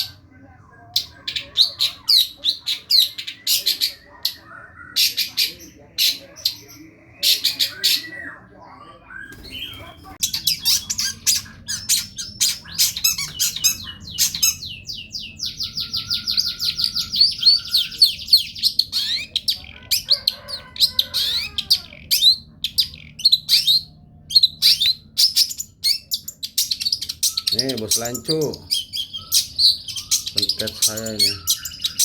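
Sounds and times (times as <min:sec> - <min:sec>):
bird song chirps and squawks: 0:00.0 - 0:32.0.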